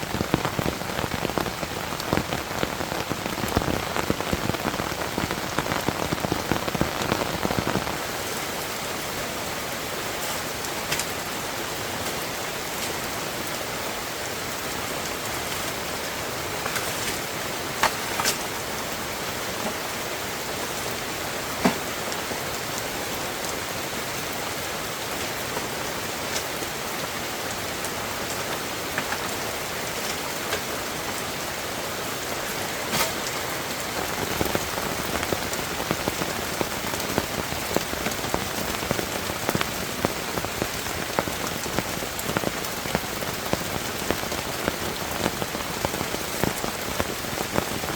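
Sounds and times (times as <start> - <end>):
rain falling steadily: 0.0 - 47.9.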